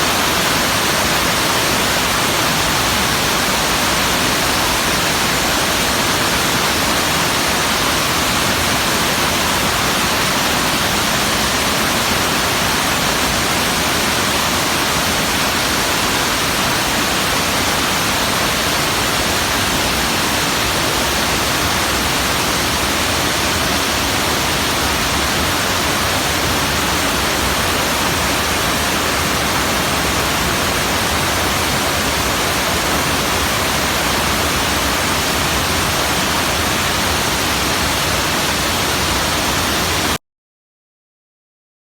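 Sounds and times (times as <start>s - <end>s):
waterfall rushing: 0.0s - 40.2s.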